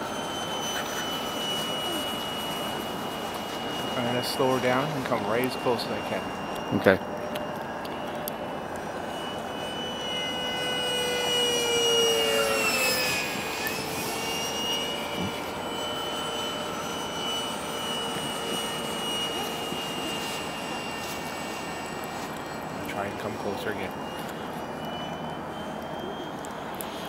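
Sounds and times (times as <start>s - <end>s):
model jet whine: 0.0s - 27.0s.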